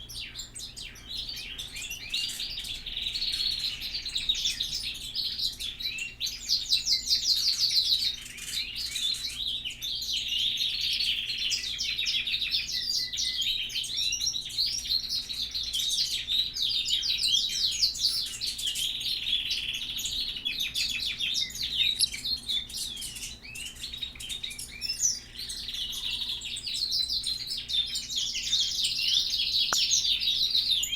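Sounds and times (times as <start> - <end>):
flock of birds chirping: 0.0 - 30.9.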